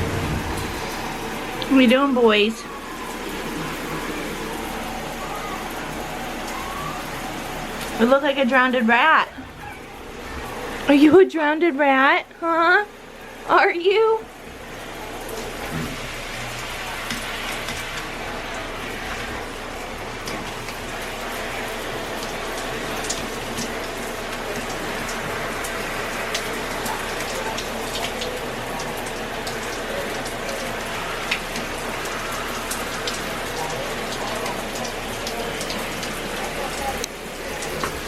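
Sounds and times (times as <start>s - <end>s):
shower water spraying: 0.0s - 11.2s, 14.3s - 38.0s
sharp drips and splatters: 0.0s - 38.0s.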